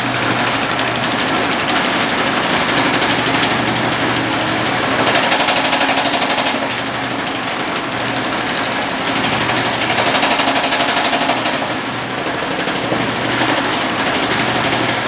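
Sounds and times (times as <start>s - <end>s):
power hammer pounding sheet metal: 0.0s - 15.0s.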